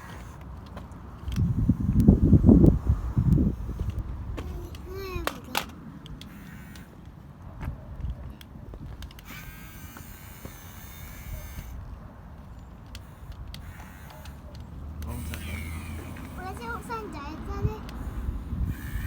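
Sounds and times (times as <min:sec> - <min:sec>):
small electric motors buzzing: 0:00.0 - 0:07.2, 0:08.8 - 0:19.0.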